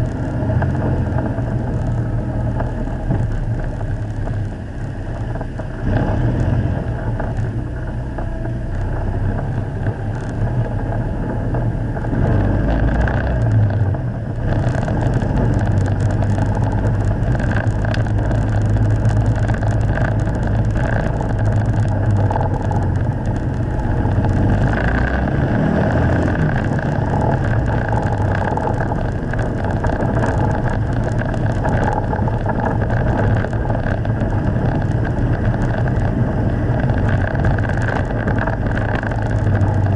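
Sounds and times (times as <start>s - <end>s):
boxer engine running under load: 0.0s - 39.9s
tyres on gravel: 0.0s - 39.9s.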